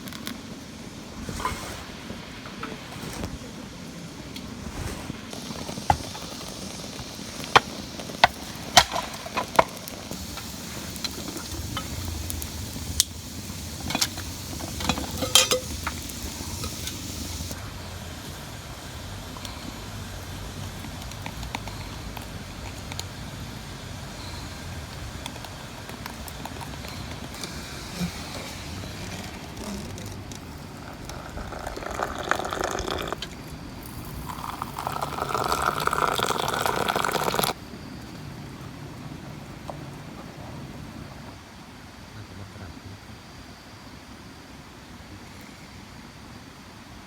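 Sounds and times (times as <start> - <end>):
rain hissing: 0.0 - 41.7.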